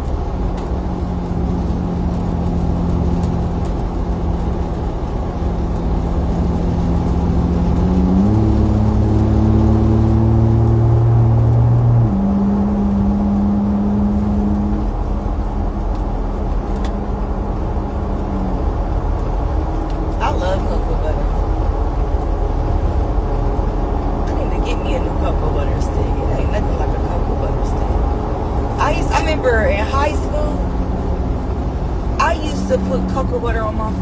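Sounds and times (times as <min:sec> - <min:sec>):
car engine hum: 0:00.0 - 0:34.0
road noise: 0:00.0 - 0:34.0.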